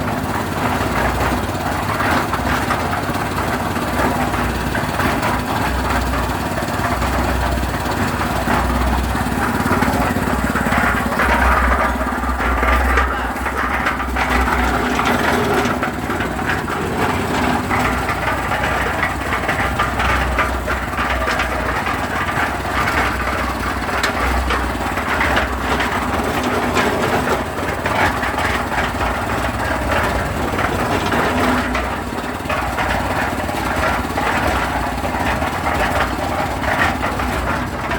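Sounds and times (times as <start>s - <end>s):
concrete mixer rattling: 0.0s - 37.9s.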